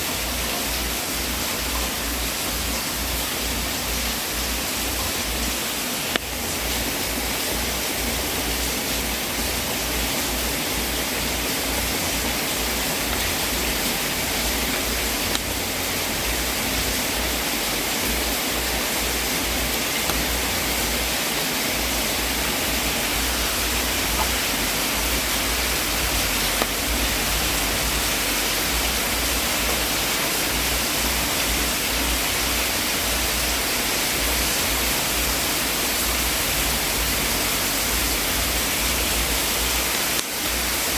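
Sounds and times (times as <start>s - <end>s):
wood fire hissing and popping: 0.1s - 40.9s.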